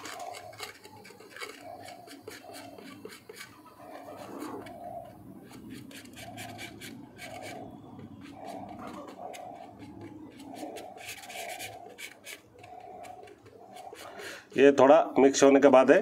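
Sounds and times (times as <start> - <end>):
putty blade scraping on stone: 0.0 - 14.6.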